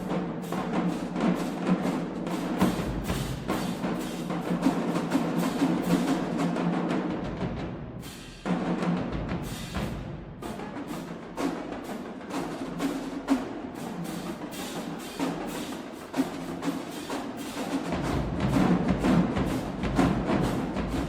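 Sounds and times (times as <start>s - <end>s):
snare and tenor drums: 0.0s - 21.0s.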